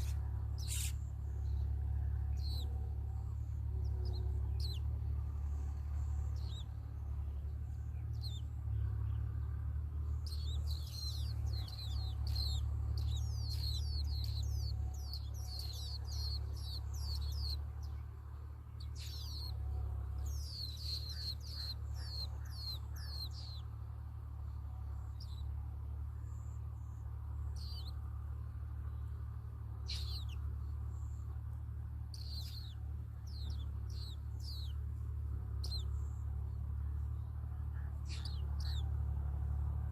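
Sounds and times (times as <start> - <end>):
low hum: 0.0 - 39.9
nestling birds chirping: 0.0 - 39.9.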